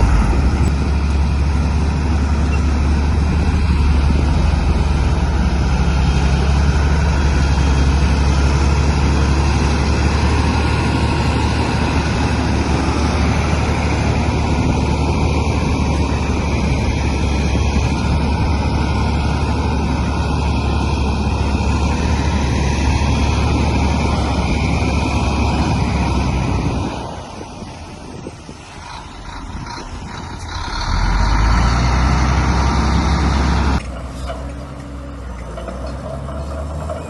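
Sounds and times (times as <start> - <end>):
bulldozer diesel engine droning: 0.0 - 37.0.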